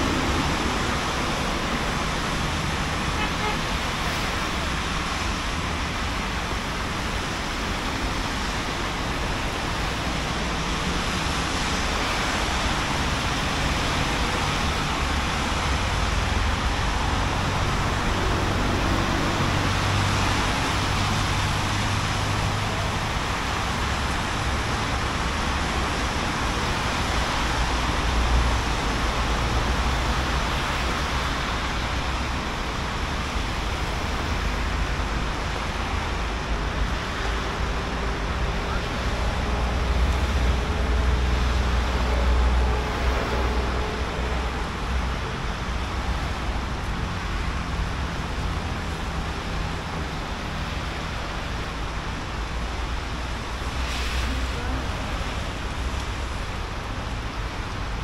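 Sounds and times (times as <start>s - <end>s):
rain: 0.0s - 58.0s
tyres hissing on wet road: 0.0s - 58.0s
low engine rumble: 8.4s - 58.0s.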